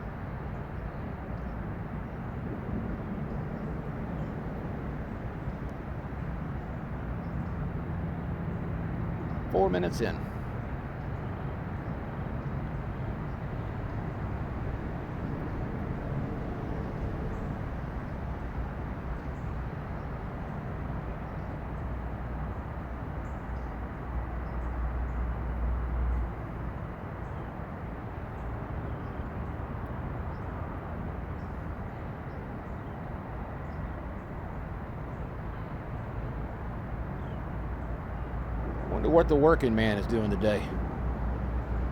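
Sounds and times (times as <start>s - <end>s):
distant traffic rumble: 0.0s - 41.9s.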